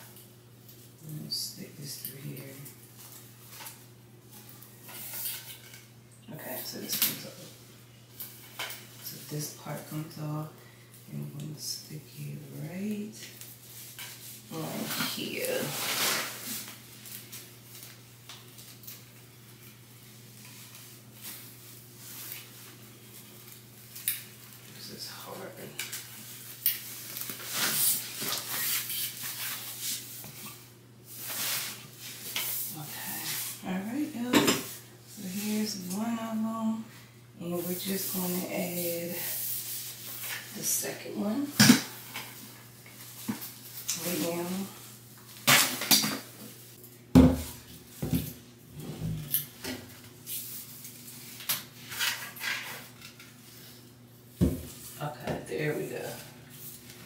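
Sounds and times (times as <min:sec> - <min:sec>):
faint steady hum: 0:00.0 - 0:57.0
shower curtain rustling and scraping: 0:01.9 - 0:09.9, 0:12.6 - 0:46.9, 0:47.5 - 0:57.0.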